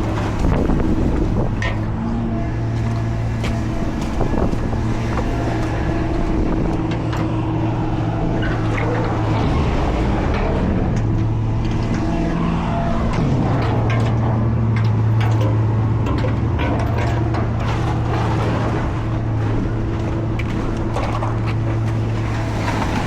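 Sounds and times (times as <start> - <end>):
road and tyre noise: 0.0 - 23.0
truck engine humming: 0.0 - 23.0.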